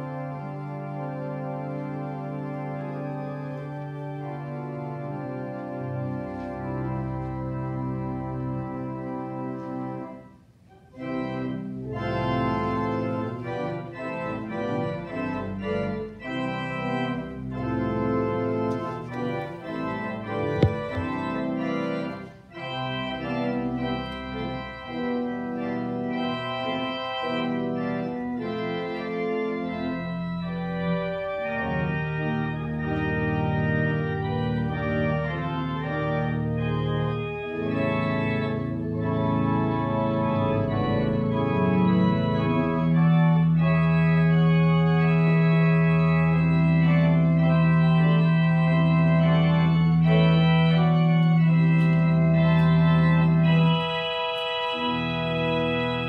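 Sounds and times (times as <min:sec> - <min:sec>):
organ playing held chords: 0:00.0 - 0:56.0.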